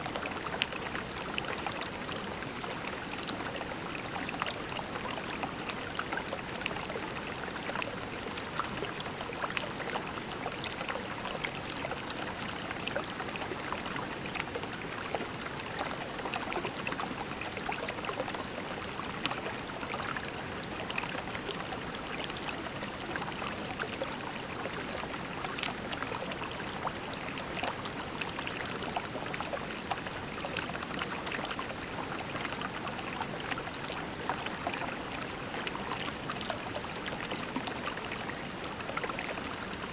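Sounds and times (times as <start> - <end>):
creek running over pebbles: 0.0 - 39.9.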